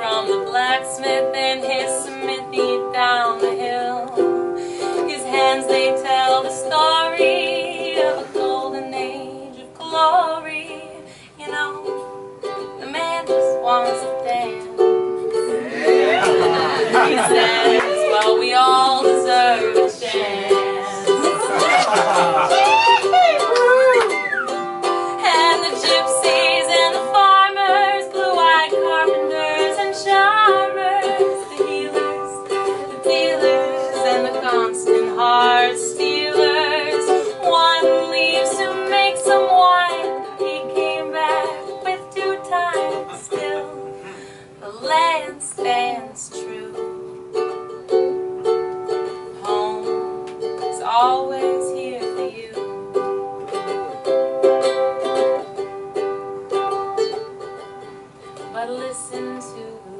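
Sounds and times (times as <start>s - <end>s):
woman singing: 0.0s - 24.1s, 24.8s - 44.0s, 44.6s - 47.0s, 49.4s - 54.1s, 58.4s - 59.9s
ukulele strumming: 0.0s - 59.9s.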